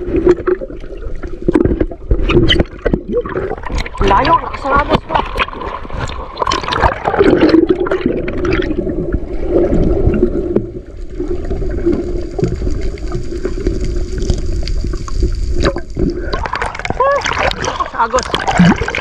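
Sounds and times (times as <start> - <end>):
muffled underwater rush: 0.0 - 19.0
water splashing: 0.0 - 19.0.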